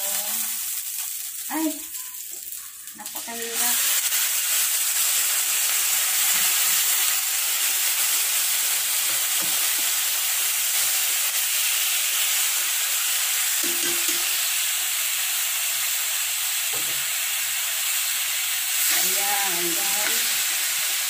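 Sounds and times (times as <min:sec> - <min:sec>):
meat sizzling in hot oil: 0:00.0 - 0:21.0.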